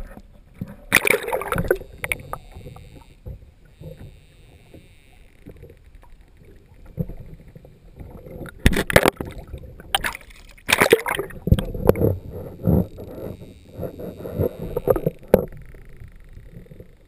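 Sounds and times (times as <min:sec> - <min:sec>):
crackling splash bursts: 0:00.0 - 0:16.9
underwater sloshing and bubbling: 0:00.0 - 0:17.0.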